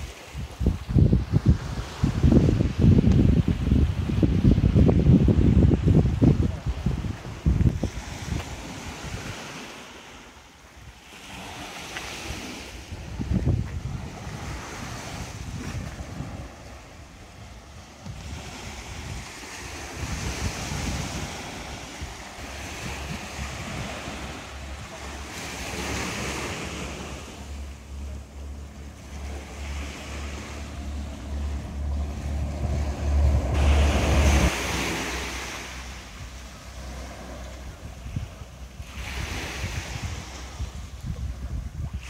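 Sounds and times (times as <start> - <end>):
sea waves breaking: 0.0 - 42.0
wind rumbling on microphone: 0.0 - 42.0.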